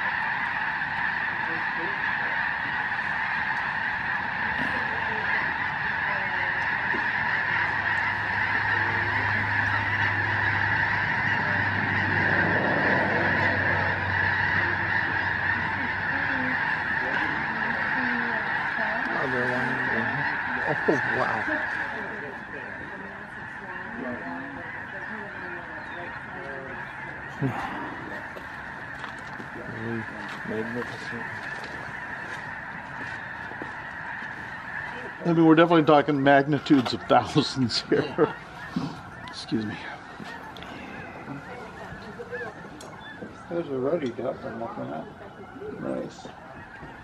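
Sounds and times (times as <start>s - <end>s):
geese honking in flight: 0.0s - 47.0s.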